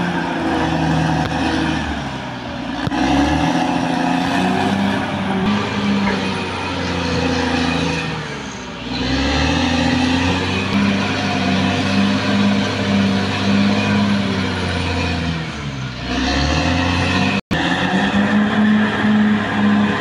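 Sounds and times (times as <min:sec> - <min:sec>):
bulldozer diesel engine under load: 0:00.0 - 0:20.0.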